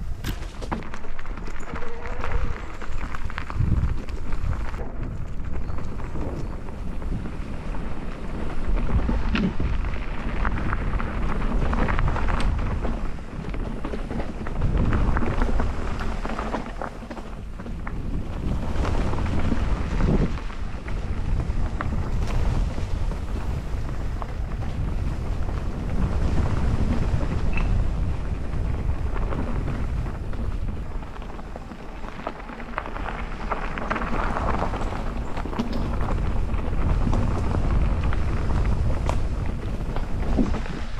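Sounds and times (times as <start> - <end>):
bike rumbling on trail: 0.0 - 40.9
wind buffeting microphone: 0.0 - 40.9.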